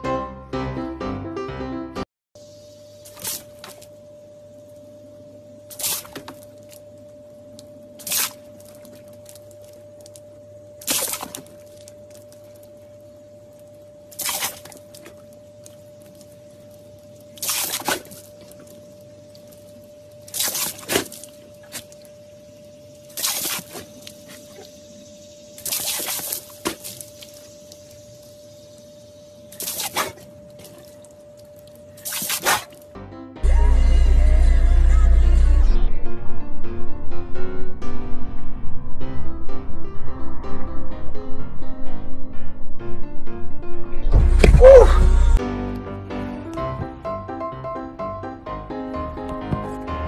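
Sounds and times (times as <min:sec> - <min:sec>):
faint steady hum: 0:02.4 - 0:45.4.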